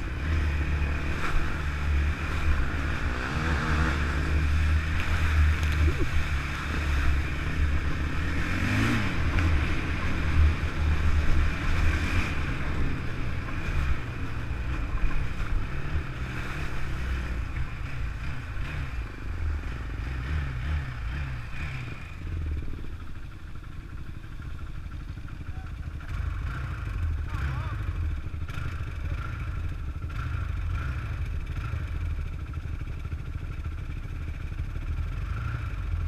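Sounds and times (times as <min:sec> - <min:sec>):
quad bike engine revving: 0:00.0 - 0:36.0.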